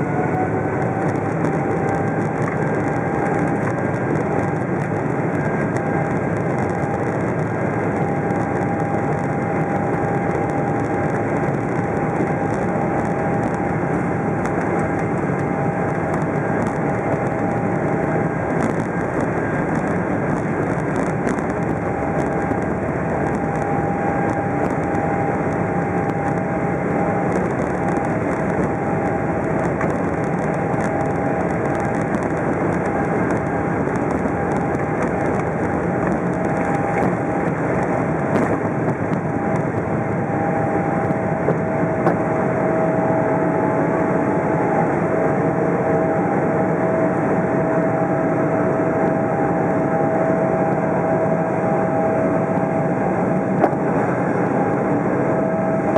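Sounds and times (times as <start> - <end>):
airplane cabin noise: 0.0 - 55.9
faint jet engine whine: 0.0 - 55.9.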